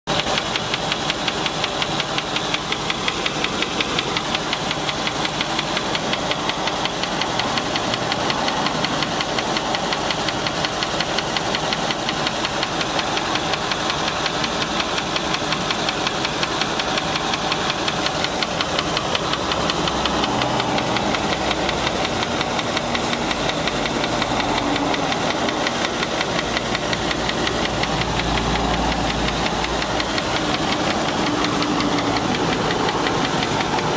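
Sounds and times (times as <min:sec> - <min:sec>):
engine running with rhythmic knock: 0:00.1 - 0:33.9.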